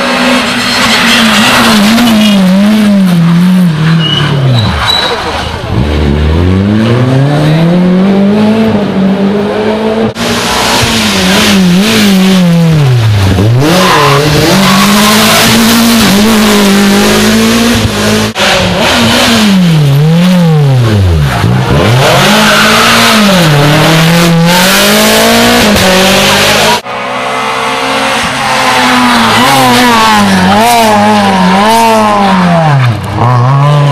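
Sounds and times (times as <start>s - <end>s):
rally car engines revving hard: 0.0s - 33.9s.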